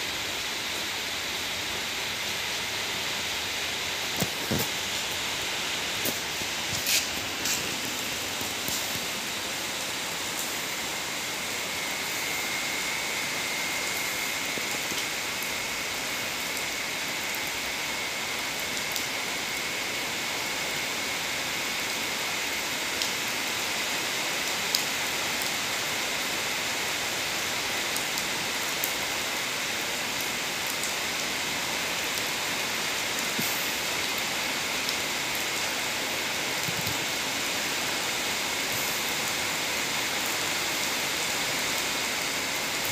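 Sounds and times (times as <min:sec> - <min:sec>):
rain on wet paving: 0:00.0 - 0:42.9.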